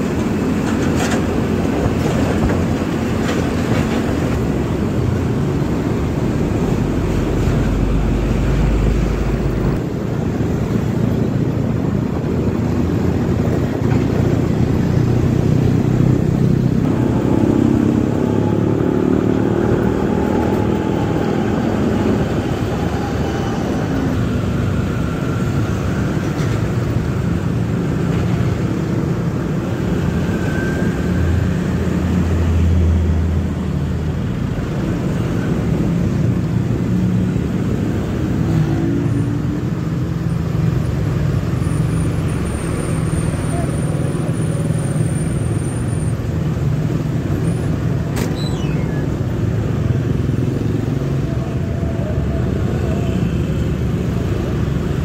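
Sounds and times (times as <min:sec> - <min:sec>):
motorcycle road and wind noise: 0:00.0 - 0:55.0
truck engines running: 0:00.0 - 0:55.0.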